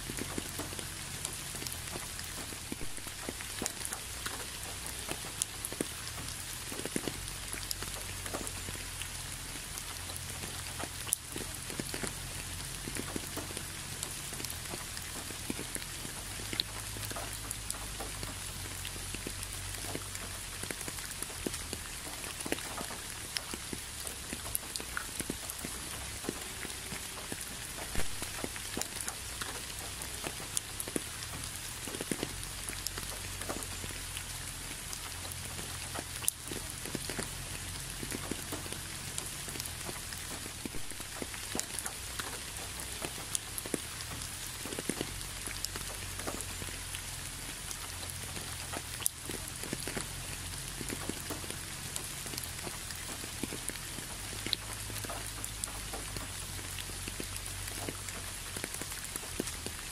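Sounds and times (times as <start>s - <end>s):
rain falling: 0.0s - 59.9s
raindrops tapping: 0.0s - 59.9s.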